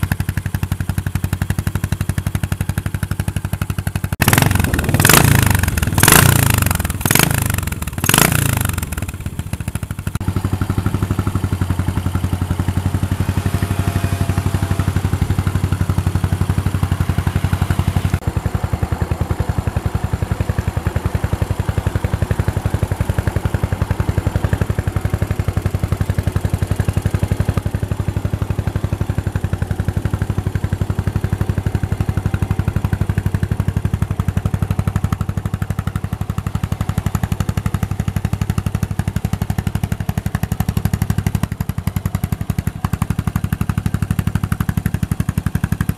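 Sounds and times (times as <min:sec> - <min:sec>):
single-cylinder engine revving and idling: 0:00.0 - 0:45.9.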